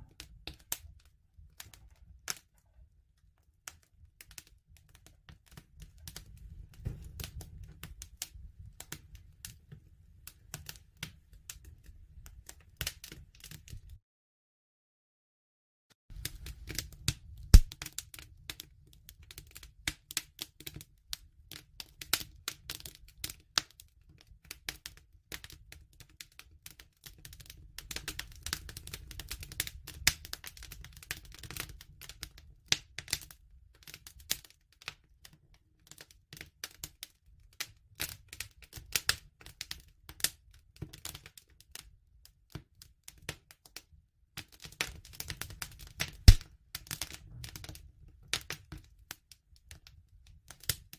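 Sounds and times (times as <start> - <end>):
wood fire crackling: 0.0 - 14.0, 16.1 - 35.4, 37.6 - 41.9, 44.4 - 50.9.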